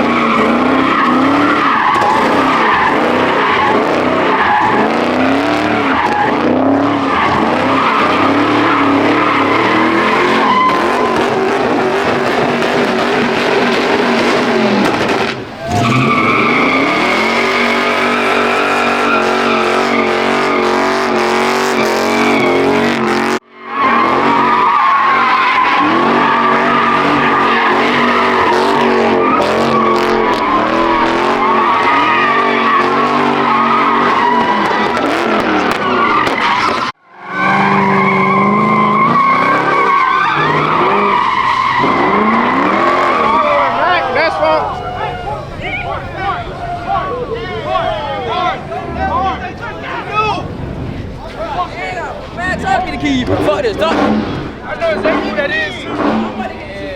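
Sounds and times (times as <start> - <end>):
tyres squealing: 0.0 - 23.1, 23.7 - 56.9
high-revving car engine: 0.0 - 56.9.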